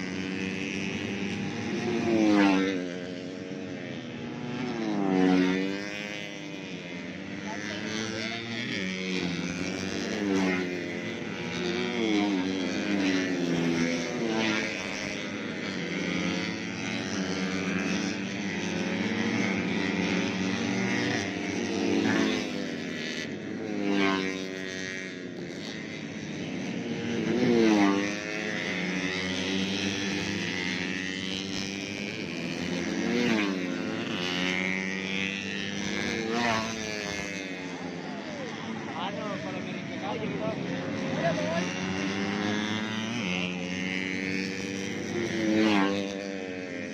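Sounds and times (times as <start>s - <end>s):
racing motorcycles passing at high revs: 0.0s - 46.9s.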